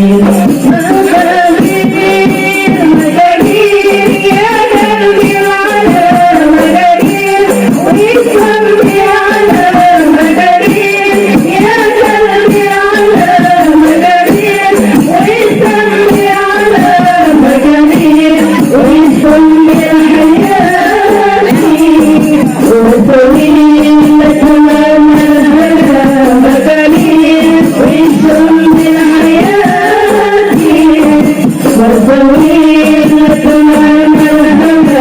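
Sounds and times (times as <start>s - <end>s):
frame drums beaten in rhythm: 0.0s - 35.0s
person singing a melody: 0.0s - 35.0s.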